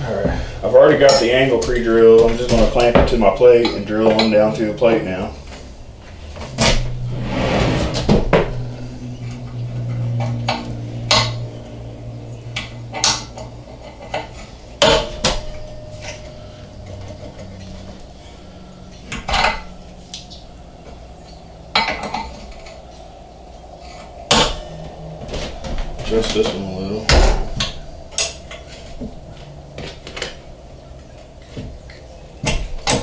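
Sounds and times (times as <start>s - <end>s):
low steady hum: 5.2s - 32.3s.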